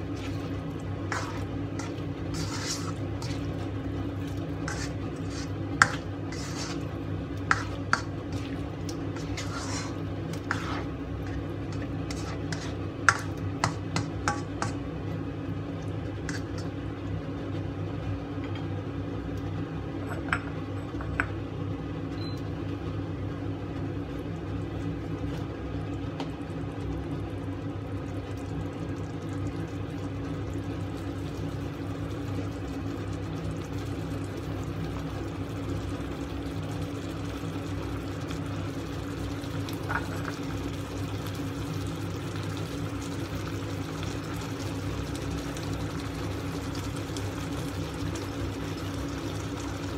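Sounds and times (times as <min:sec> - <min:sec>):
food cooking in a wok: 0:00.0 - 0:49.9
steady low hum: 0:00.0 - 0:49.9.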